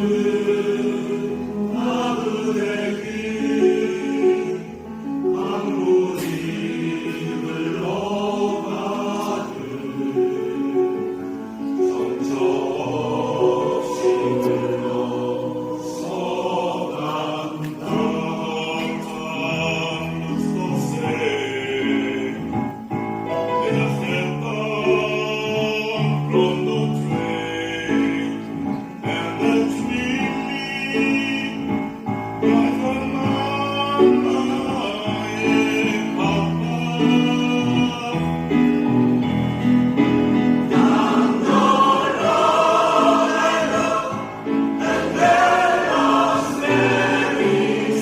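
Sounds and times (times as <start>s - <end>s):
choir singing: 0.0s - 48.0s
musical accompaniment: 0.0s - 48.0s.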